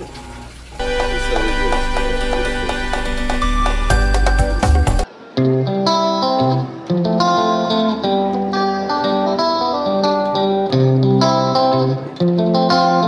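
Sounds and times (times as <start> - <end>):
plucked guitar melody: 0.8 - 13.0.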